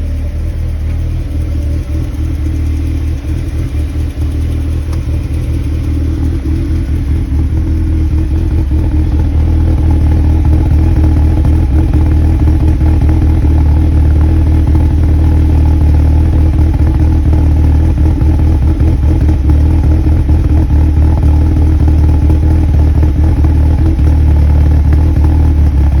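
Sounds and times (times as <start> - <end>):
car engine idling roughly: 0.0 - 26.0.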